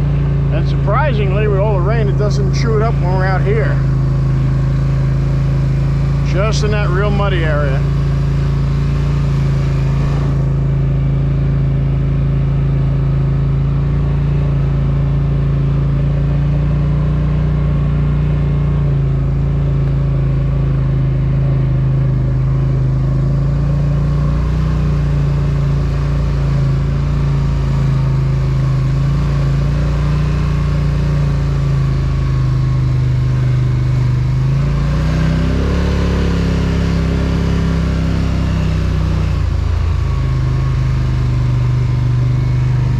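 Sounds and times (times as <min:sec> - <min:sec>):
quad bike engine running and revving: 0:00.0 - 0:42.9.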